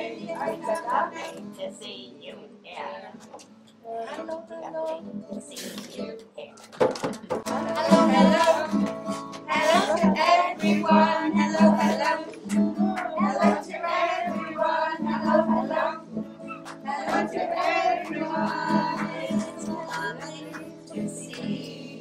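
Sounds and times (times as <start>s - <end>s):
people singing together: 0.0s - 3.2s, 7.4s - 22.0s.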